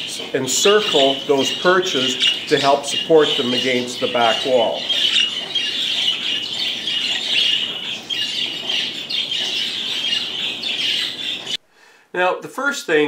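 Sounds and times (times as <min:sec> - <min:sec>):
budgerigars chattering and chirping: 0:00.0 - 0:11.6.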